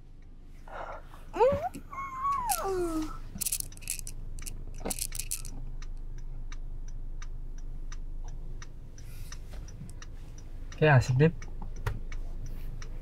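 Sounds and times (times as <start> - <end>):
car cabin hum: 0.0 - 3.4, 5.5 - 13.0
turn signal ticking: 0.0 - 13.0.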